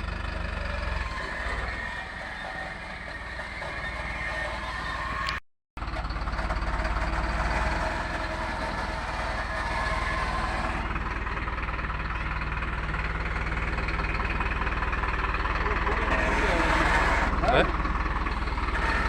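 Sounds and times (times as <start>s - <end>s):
vehicle-like rumbling: 0.0s - 19.0s.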